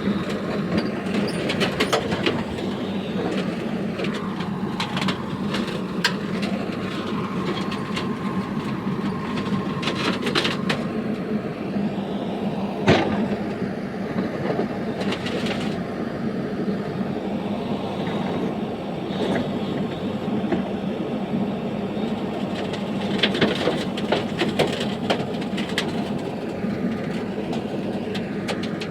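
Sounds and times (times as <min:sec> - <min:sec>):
heavy machinery running: 0:00.0 - 0:28.9.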